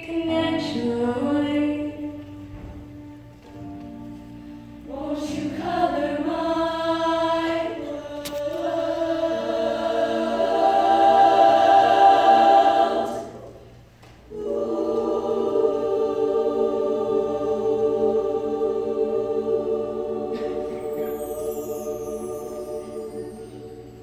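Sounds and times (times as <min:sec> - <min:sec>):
women's choir singing: 0:00.0 - 0:24.0.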